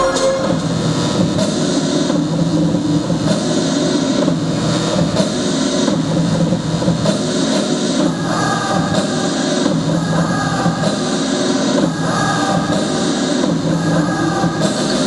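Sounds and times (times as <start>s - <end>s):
dance music over sound system: 0.0s - 15.0s.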